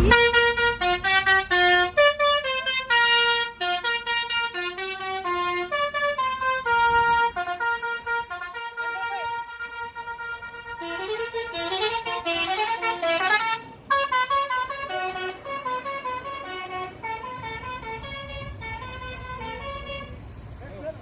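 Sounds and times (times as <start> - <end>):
musical bus air horns: 0.0 - 20.5.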